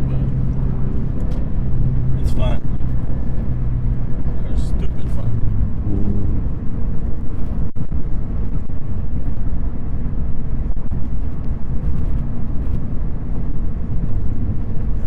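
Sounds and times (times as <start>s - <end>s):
car engine droning while driving: 0.0s - 15.0s
road noise: 0.0s - 15.0s.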